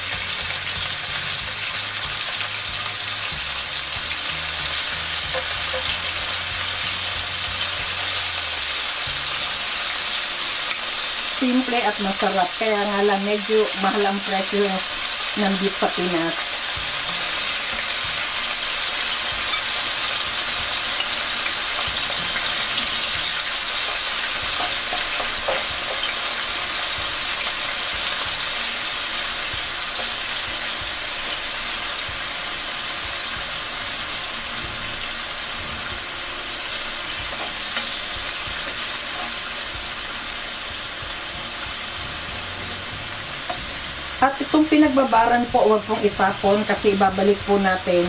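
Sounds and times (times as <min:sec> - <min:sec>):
beef sizzling in a frying pan: 0:00.0 - 0:48.0.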